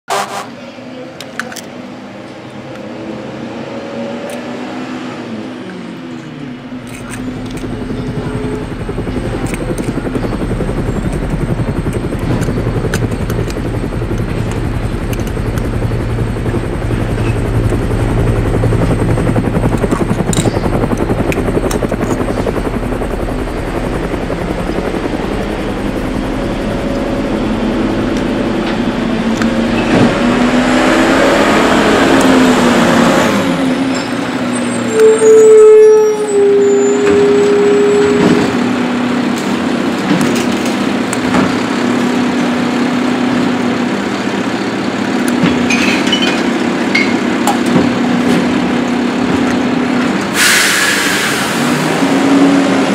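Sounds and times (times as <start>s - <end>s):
helicopter rotor chop: 0.1s - 52.9s.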